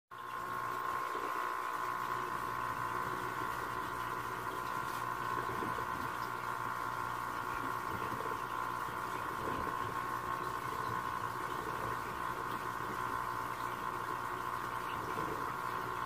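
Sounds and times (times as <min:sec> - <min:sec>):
aquarium pump humming: 0:00.1 - 0:16.0
water bubbling: 0:00.2 - 0:16.0.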